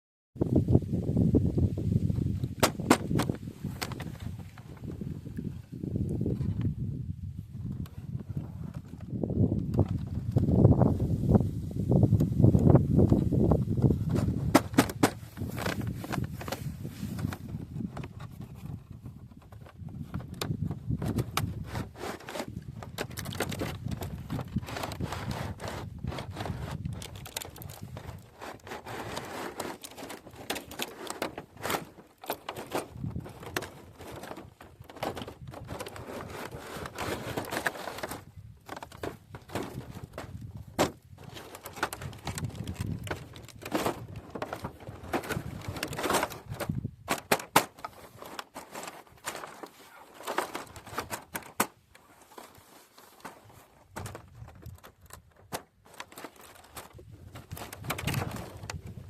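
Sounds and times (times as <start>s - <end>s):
plastic toy and packaging rustling: 2.1s - 6.8s, 7.6s - 59.0s.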